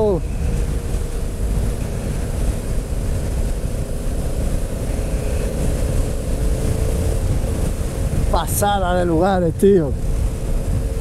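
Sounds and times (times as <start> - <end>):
motorcycle engine drone: 0.0 - 11.0
wind buffeting microphone: 0.0 - 11.0.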